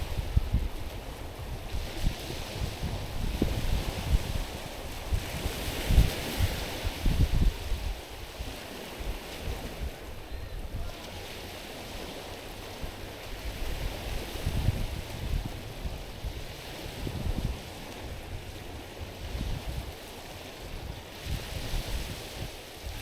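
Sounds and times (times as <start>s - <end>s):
sea waves lapping over stones: 0.0s - 23.0s
wind buffeting microphone: 0.0s - 23.0s.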